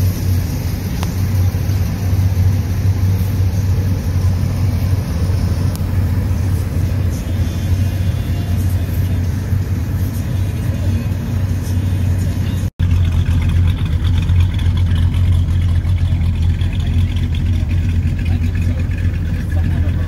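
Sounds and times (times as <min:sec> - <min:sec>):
engine idling rumble: 0:00.0 - 0:20.0.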